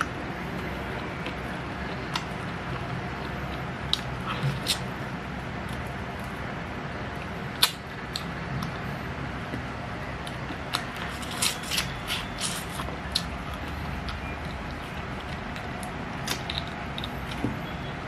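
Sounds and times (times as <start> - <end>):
eating clicks and crunches: 0.0 - 6.4, 7.1 - 8.8, 9.5 - 17.7
steady low hum: 0.0 - 18.0.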